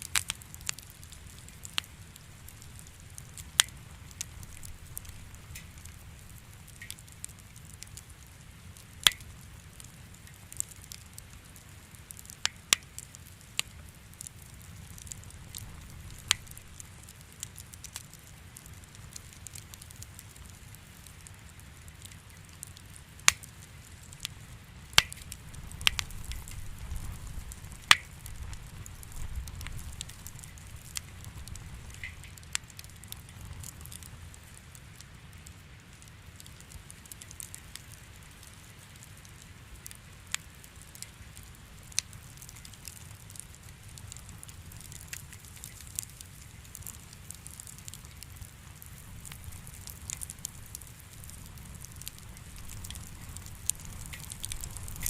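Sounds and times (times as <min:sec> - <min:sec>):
fire crackling and popping: 0:00.0 - 0:55.0
low fire rumble: 0:00.0 - 0:55.0.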